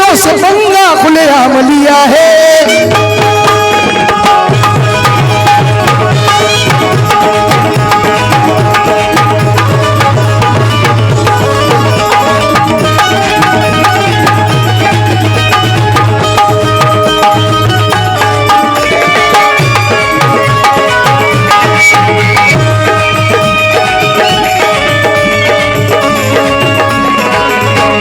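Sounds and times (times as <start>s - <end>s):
hand drums fast rhythm: 0.0s - 28.0s
held melody line: 0.0s - 28.0s.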